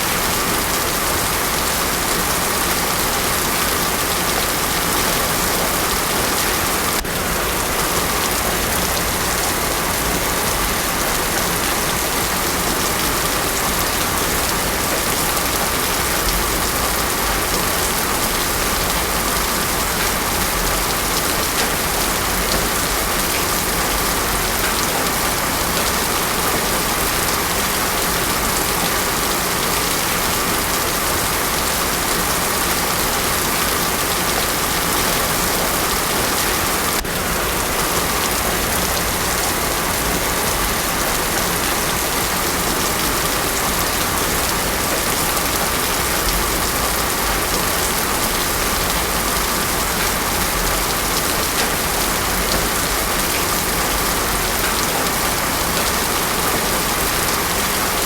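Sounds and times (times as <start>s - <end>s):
heavy rain on road: 0.0s - 58.0s.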